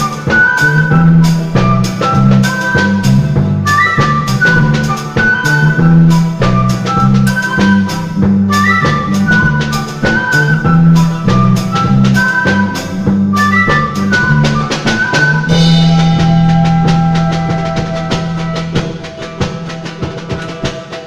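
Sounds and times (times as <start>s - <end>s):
folk band instrumental: 0.0s - 21.0s
steady drum beat: 0.0s - 21.0s.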